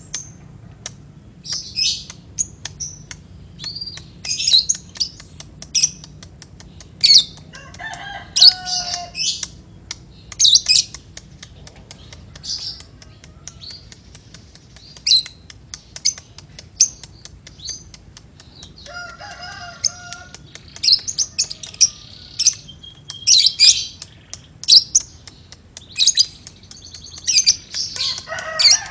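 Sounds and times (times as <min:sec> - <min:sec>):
lovebird chirping and chattering: 0:00.0 - 0:28.9.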